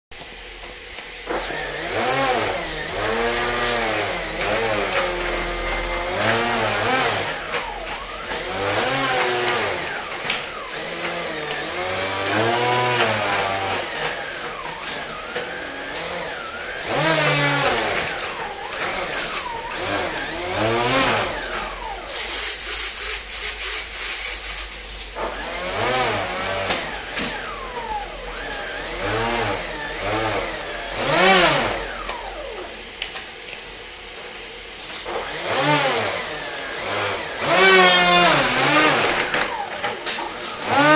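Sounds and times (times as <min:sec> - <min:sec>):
steady high whine: 0:00.2 - 0:40.9
electric motor revving up and down: 0:01.2 - 0:32.8, 0:35.0 - 0:40.9.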